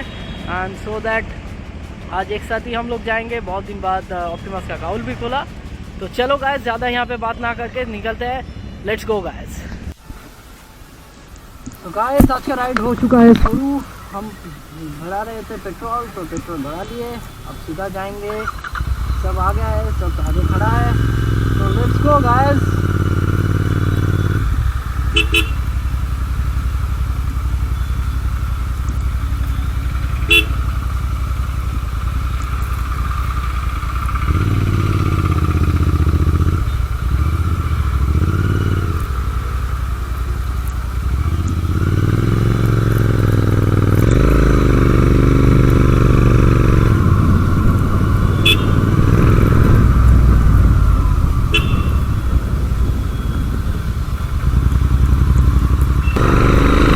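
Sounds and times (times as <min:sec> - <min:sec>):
motorcycle engine accelerating: 0:00.0 - 0:07.0, 0:15.1 - 0:56.9
riding noise rush: 0:00.0 - 0:56.9.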